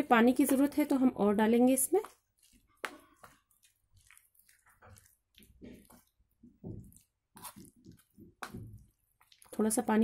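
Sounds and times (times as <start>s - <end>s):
hand squelching batter: 0.3s - 10.0s.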